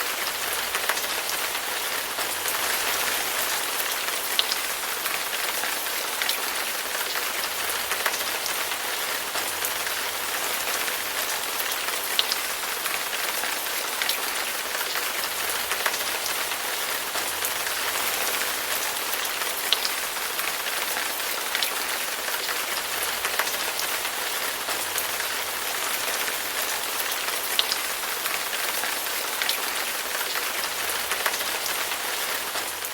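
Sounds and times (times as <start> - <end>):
heavy rain: 0.0 - 32.9.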